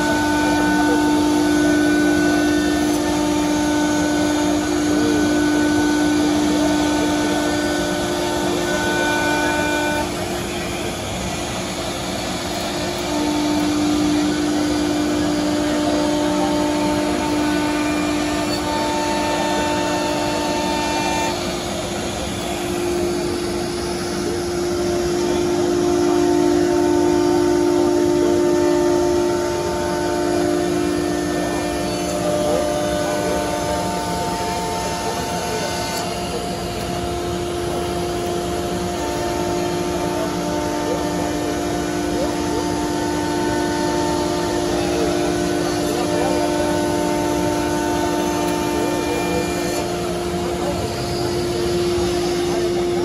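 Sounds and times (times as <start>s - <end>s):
router spindle whining: 0.0s - 53.0s.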